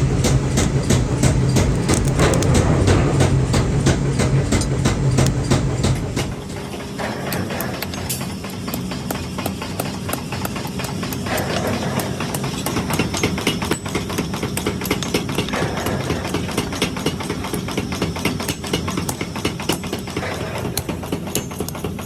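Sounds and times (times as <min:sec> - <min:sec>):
hammering on metal: 0:00.0 - 0:22.0
low running hum: 0:00.0 - 0:22.0.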